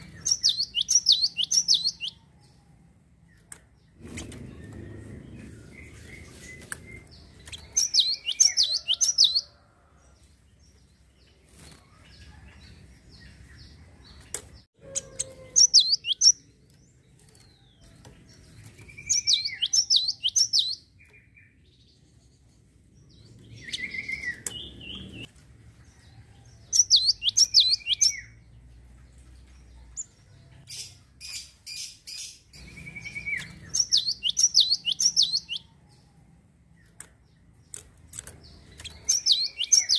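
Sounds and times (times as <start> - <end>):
sparrow singing: 0.0 - 25.3, 25.9 - 39.9.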